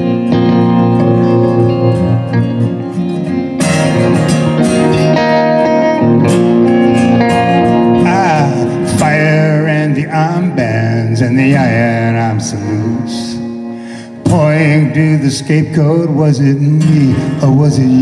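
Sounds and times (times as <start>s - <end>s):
lead guitar bent notes: 0.0s - 18.0s
live band guitars playing: 0.0s - 18.0s.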